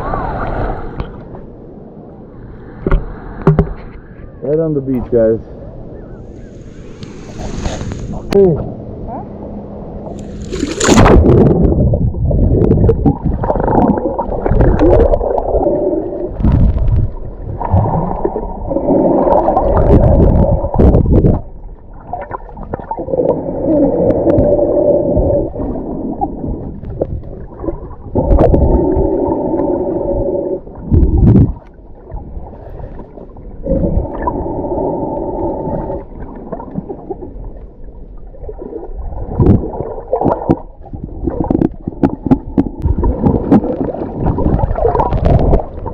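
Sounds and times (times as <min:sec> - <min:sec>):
water gurgling and sloshing: 0:00.0 - 0:45.9.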